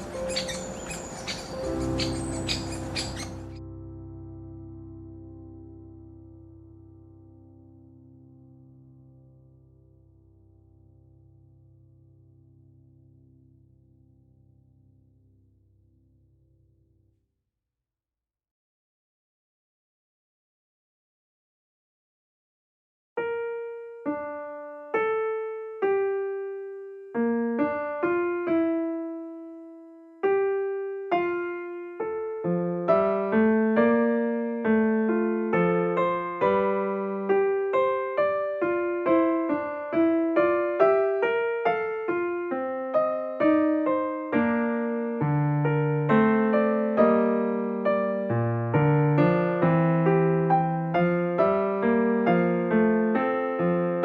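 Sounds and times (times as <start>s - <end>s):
soft solo piano music: 0.0s - 15.1s, 23.2s - 54.0s.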